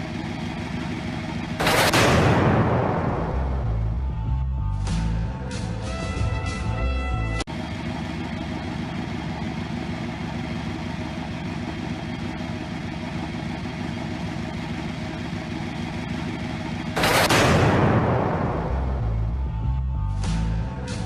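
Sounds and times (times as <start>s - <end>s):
car engine idling: 0.0s - 5.8s, 7.5s - 21.0s.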